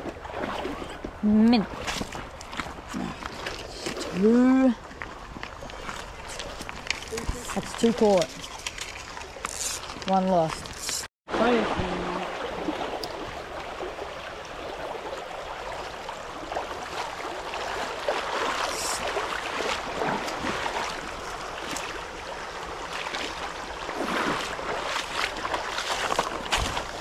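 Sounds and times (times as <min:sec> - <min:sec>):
creek water running: 0:00.0 - 0:27.0.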